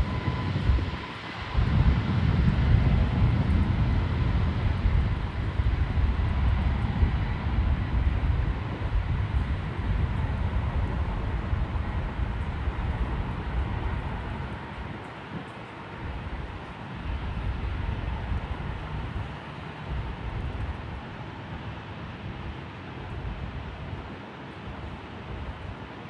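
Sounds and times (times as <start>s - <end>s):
jet engines rumbling at takeoff: 0.0s - 26.0s.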